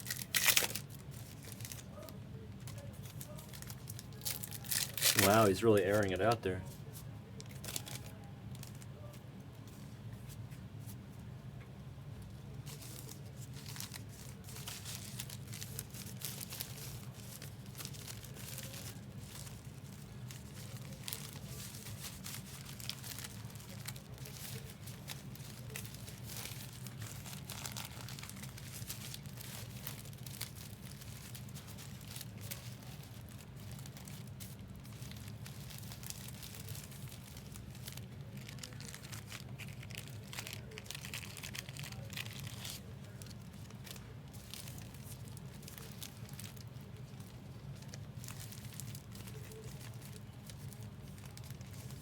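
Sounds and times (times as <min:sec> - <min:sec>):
card wrappers tearing and crinkling: 0:00.0 - 0:06.6, 0:07.4 - 0:08.8, 0:12.6 - 0:52.0.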